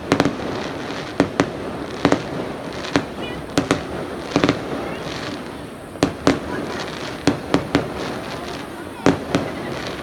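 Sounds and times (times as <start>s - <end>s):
distant crackle and rumble: 0.0s - 10.0s
fireworks bangs: 0.0s - 10.0s.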